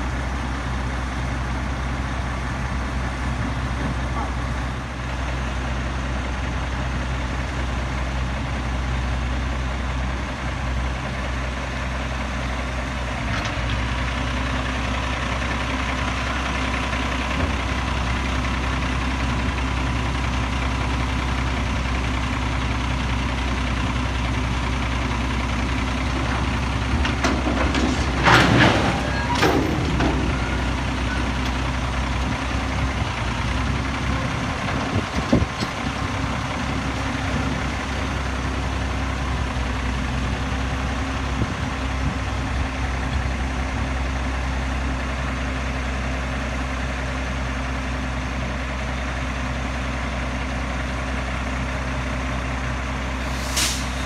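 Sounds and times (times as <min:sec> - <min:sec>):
garbage truck engine running: 0:00.0 - 0:54.0.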